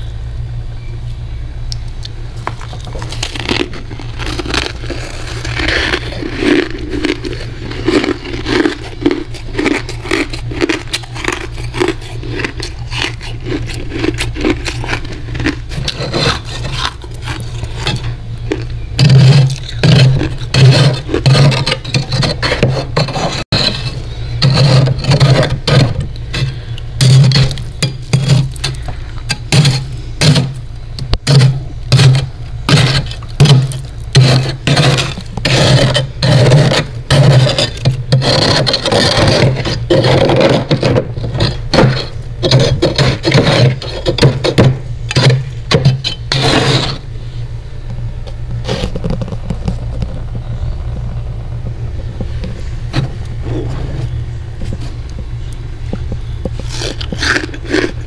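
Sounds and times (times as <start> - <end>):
steady low hum: 0.0 - 58.0
frost crunching: 2.4 - 58.0
spoon scraping frost: 2.5 - 47.4, 48.5 - 51.2, 56.5 - 58.0.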